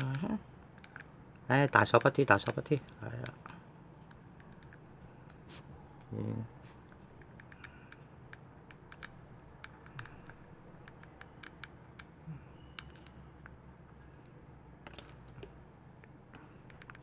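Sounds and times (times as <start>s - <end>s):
small parts clicking and tapping: 0.0s - 6.2s, 6.9s - 17.0s
low room hum: 0.0s - 17.0s.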